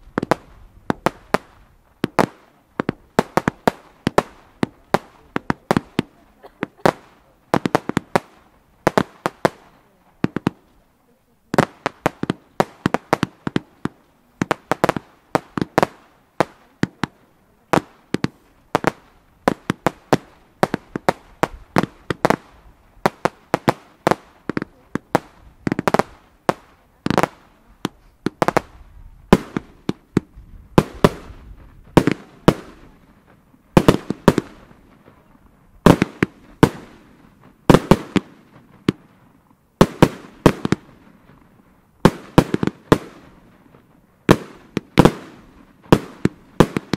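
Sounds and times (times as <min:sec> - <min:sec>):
fireworks banging: 0:00.0 - 0:46.9.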